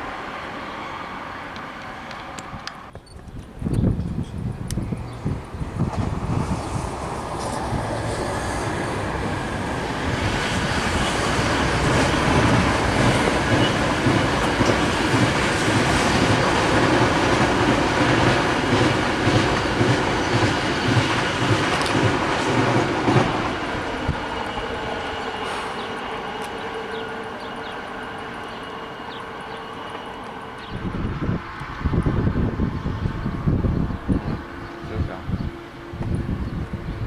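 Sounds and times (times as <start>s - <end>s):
high-speed train passing: 0.0s - 37.0s
clatter of train wheels: 1.5s - 32.2s.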